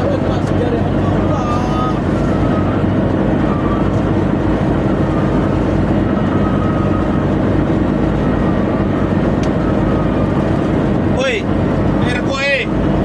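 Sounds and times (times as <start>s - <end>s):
faint wavering whine: 0.0s - 12.4s
boat diesel engines droning: 0.0s - 13.0s.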